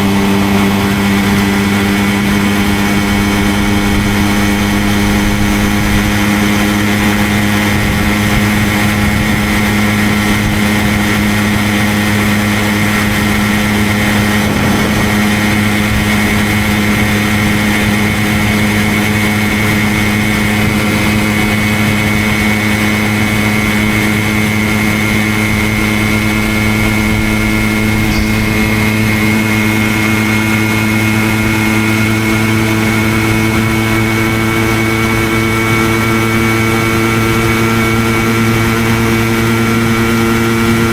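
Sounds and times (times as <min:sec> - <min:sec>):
moped engine cruising: 0:00.0 - 0:40.9.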